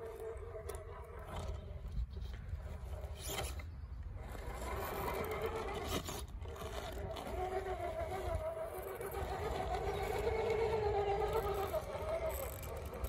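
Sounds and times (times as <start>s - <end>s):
rc car motor whining: 0.0s - 13.0s.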